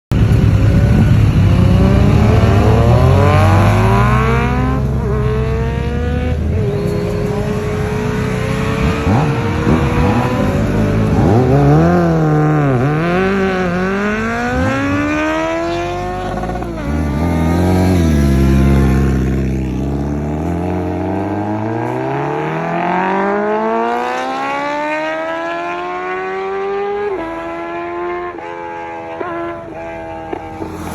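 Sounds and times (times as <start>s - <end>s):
motorcycle engine accelerating: 0.1s - 30.9s.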